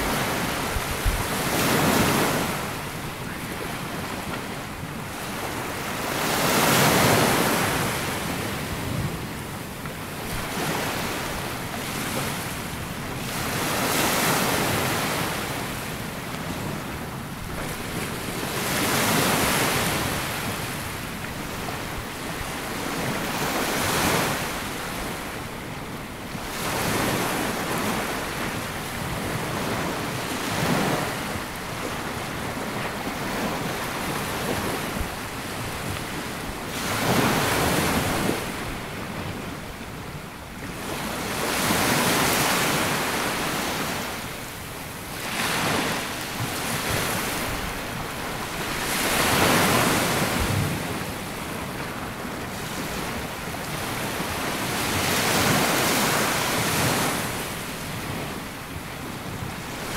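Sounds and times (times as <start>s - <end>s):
small waves on sandy beach: 0.0s - 59.9s
wind on microphone: 0.0s - 59.9s.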